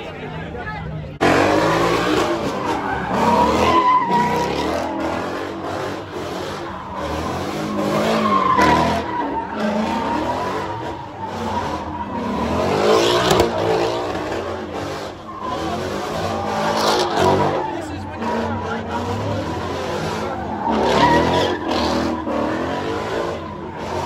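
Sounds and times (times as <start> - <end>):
car engine revving: 1.1 - 24.0
tyres squealing: 1.2 - 24.0.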